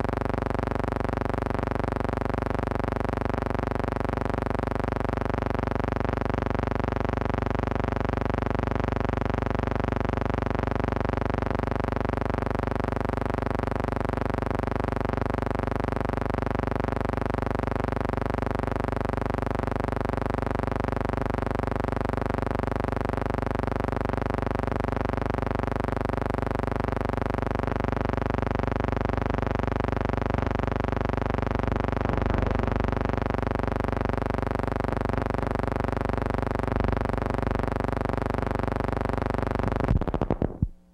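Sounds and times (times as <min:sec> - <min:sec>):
steady buzzing hum: 0:00.0 - 0:40.9.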